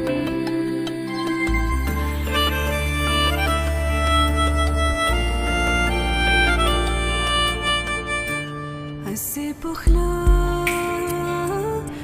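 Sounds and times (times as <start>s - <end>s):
sustained melody line: 0.0s - 11.9s.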